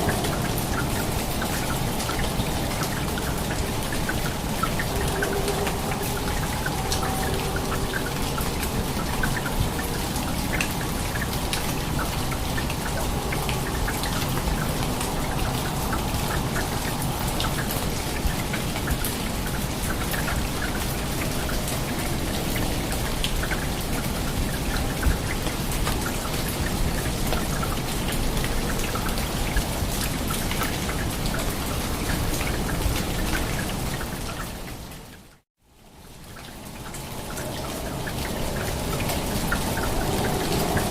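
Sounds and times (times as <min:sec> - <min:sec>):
heavy rain falling: 0:00.0 - 0:40.9
raindrops ticking on surfaces: 0:00.0 - 0:40.9.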